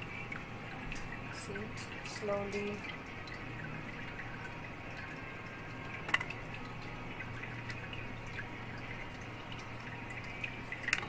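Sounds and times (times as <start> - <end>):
water dripping and trickling: 0.0 - 11.0.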